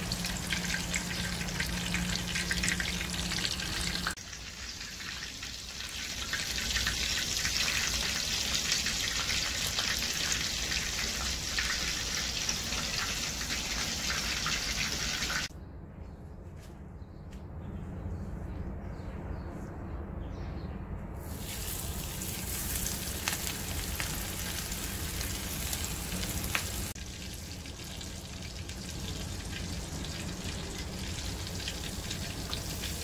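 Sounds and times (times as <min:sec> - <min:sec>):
food sizzling in oil: 0:00.0 - 0:15.5, 0:21.2 - 0:33.0.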